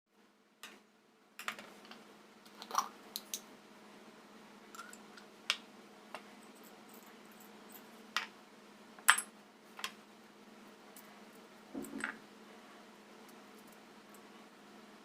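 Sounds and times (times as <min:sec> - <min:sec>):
faint steady hum: 0:00.1 - 0:15.0.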